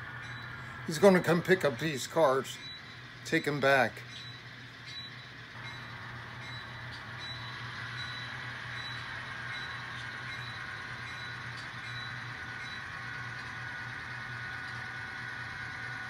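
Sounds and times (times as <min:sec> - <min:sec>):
model train motor hum and whine: 0:00.0 - 0:16.0.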